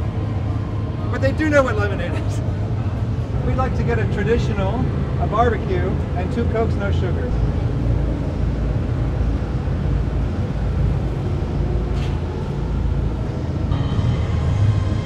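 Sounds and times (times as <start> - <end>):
low mechanical rumble: 0.0 - 15.0
music: 0.0 - 15.0.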